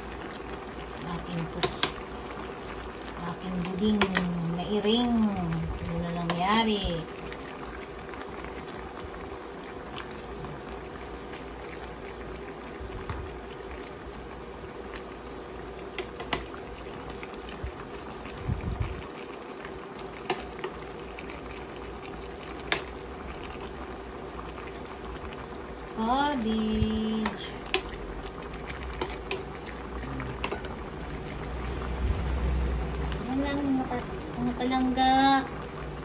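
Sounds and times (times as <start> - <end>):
broth bubbling in a pan: 0.0 - 36.0
steady hum: 0.0 - 36.0.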